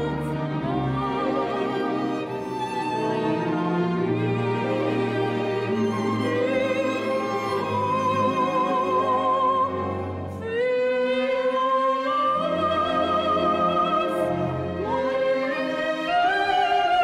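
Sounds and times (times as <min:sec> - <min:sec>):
orchestra playing: 0:00.0 - 0:17.0
soprano singing with vibrato: 0:00.0 - 0:17.0.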